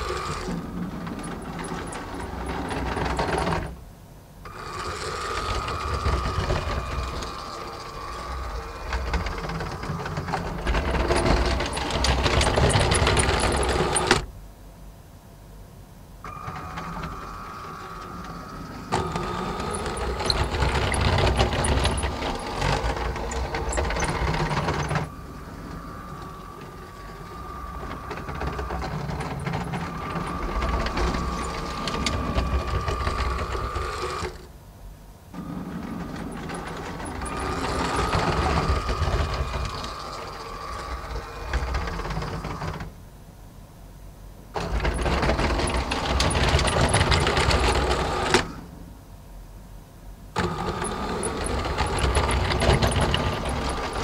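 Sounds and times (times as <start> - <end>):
plastic wheels running on track: 0.0 - 3.8, 4.5 - 14.3, 16.3 - 34.5, 35.4 - 43.0, 44.6 - 48.7, 50.4 - 54.0
toy train motors whirring: 0.0 - 3.8, 4.5 - 14.3, 16.3 - 34.5, 35.4 - 43.0, 44.6 - 48.7, 50.4 - 54.0
thin steady whine: 0.0 - 50.5.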